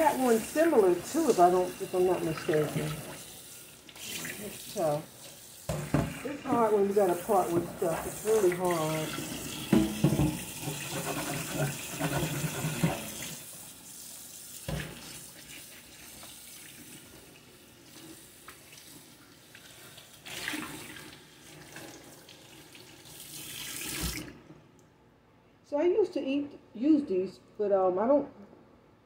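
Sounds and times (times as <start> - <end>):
faucet running into sink: 0.0 - 24.4.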